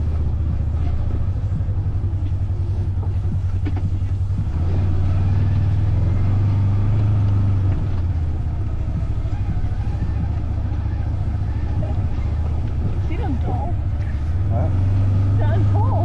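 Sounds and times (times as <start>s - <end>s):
vehicle engine pulsing: 0.0s - 16.0s.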